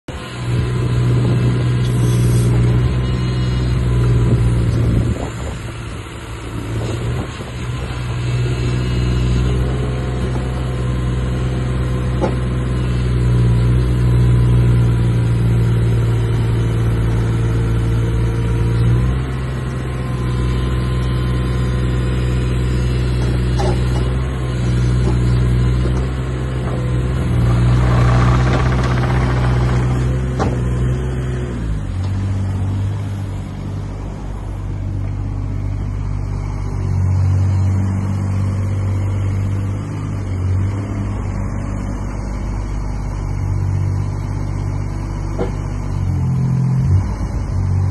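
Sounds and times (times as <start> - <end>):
excavator diesel engine running: 0.1 - 47.9.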